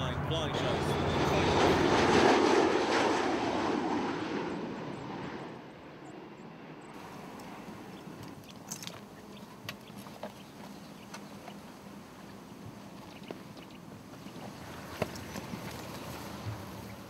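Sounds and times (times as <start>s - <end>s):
jet airliner passing over: 0.0s - 17.0s.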